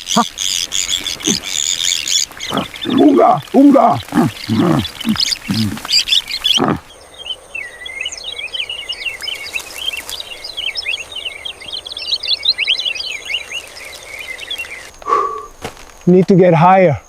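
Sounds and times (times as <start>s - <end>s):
high insect buzz: 0.0s - 16.2s
small birds chirping: 0.0s - 17.0s.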